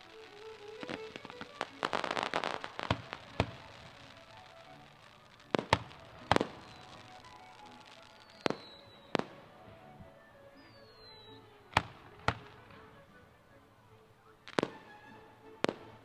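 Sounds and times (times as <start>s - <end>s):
fireworks bangs: 0.0s - 9.8s, 10.6s - 13.2s, 14.4s - 15.0s, 15.6s - 16.0s
falling firework whistles: 0.0s - 13.0s.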